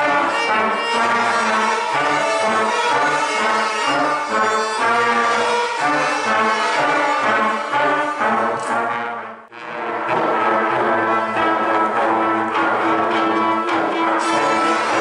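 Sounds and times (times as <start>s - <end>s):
children's band playing: 0.0s - 15.0s
trombones playing: 0.0s - 15.0s.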